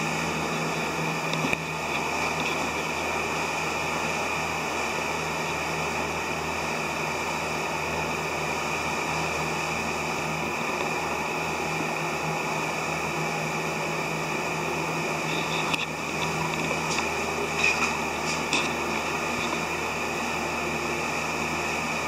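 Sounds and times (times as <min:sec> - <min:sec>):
machinery humming and hissing: 0:00.0 - 0:22.0.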